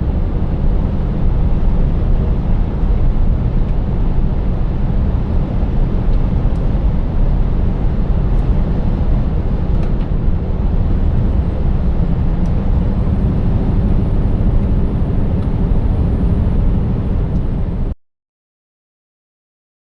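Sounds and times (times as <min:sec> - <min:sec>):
diesel truck engine running: 0:00.0 - 0:18.0
low road rumble: 0:00.0 - 0:18.0.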